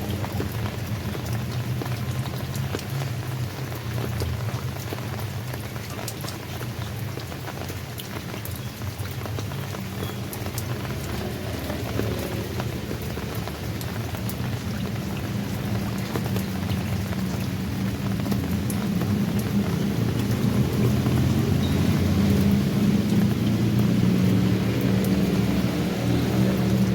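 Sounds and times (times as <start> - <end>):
rain falling: 0.0 - 26.9
raindrops ticking on surface: 0.0 - 26.9.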